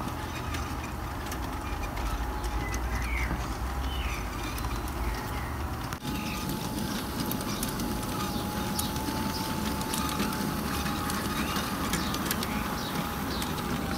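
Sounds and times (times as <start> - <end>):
thin steady whine: 0.0 - 13.9
wheels clicking on rails: 0.0 - 13.9.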